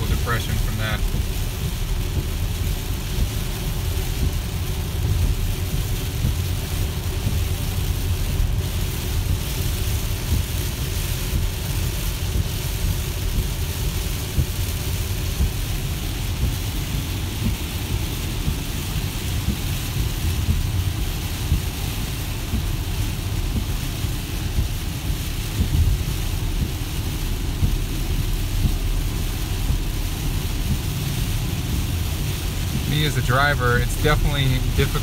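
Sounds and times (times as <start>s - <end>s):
deep rumble: 0.0s - 35.0s
heavy rain on car: 0.0s - 35.0s
tyres hissing through water: 0.0s - 35.0s.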